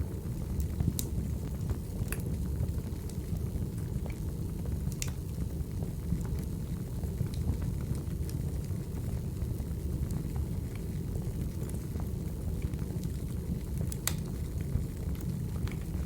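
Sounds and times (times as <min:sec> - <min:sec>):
fire popping and snapping: 0:00.0 - 0:09.0, 0:10.1 - 0:16.0
wood fire roaring: 0:00.0 - 0:16.0.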